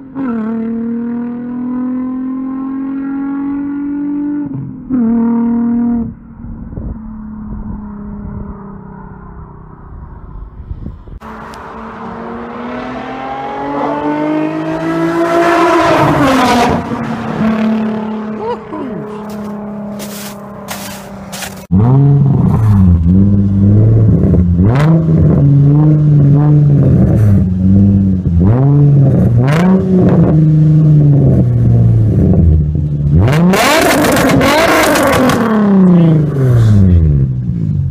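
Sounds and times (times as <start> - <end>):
car engine accelerating past: 6.8 - 37.4.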